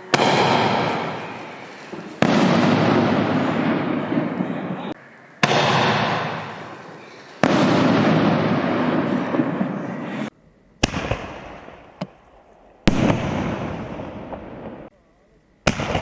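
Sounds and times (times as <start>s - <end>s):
firework shells bursting: 0.0s - 14.9s, 15.6s - 16.0s.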